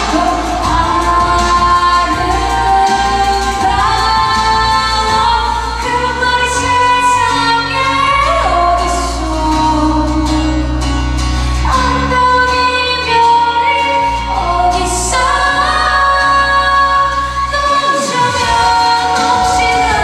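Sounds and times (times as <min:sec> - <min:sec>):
musical accompaniment with bass: 0:00.0 - 0:20.0
woman singing pop ballad: 0:00.0 - 0:20.0.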